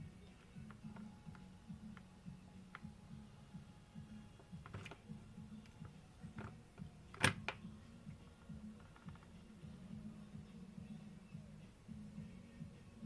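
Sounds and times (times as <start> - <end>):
low unsteady hum: 0.0 - 13.0.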